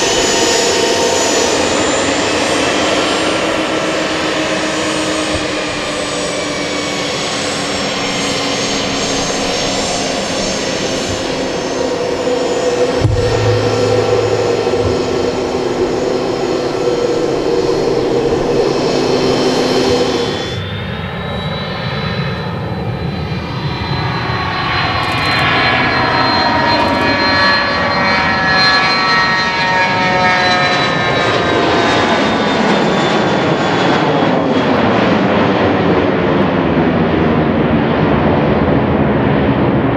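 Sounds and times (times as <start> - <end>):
jet engine whine: 0.0 - 39.9
jet engine rushing roar: 0.4 - 38.3.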